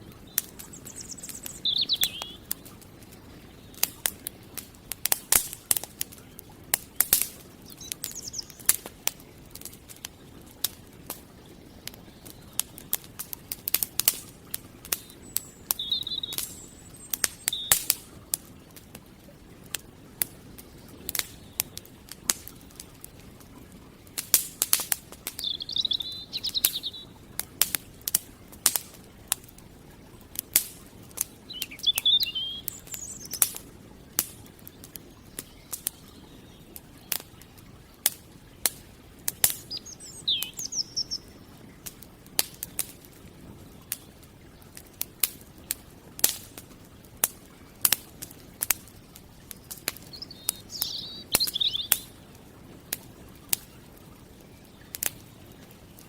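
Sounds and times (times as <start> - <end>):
small birds chirping: 0.0 - 43.0, 47.9 - 56.0
campfire crackling and popping: 0.0 - 56.0.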